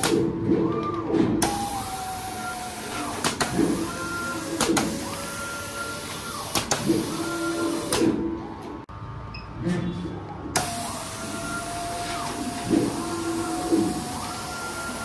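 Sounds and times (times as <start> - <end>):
drive motors whining: 0.0 - 8.7, 10.5 - 15.0.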